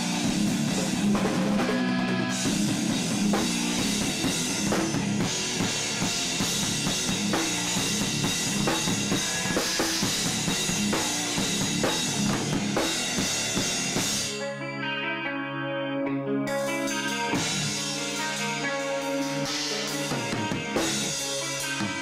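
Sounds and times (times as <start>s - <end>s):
drum kit pounding: 0.0s - 14.3s, 17.3s - 22.0s
rock band playing: 0.0s - 22.0s.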